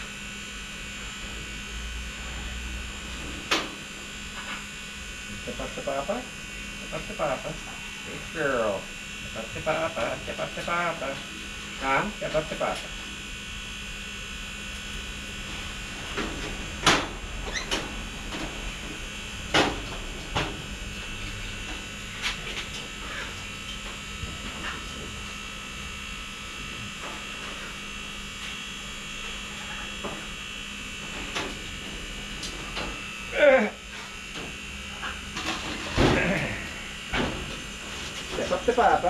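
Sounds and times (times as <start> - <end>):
steady electrical buzz: 0.0 - 39.0.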